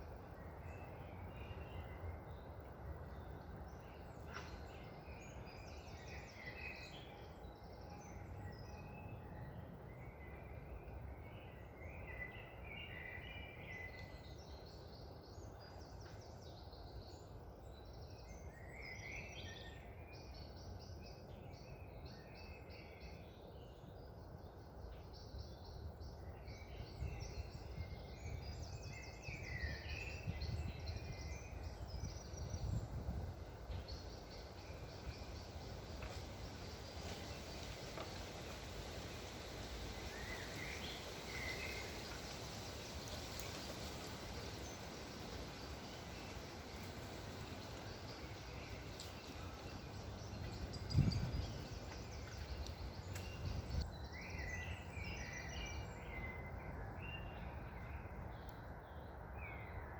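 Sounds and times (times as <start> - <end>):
low wind rumble: 0.0 - 59.9
songbirds chirping and trilling: 0.0 - 59.9.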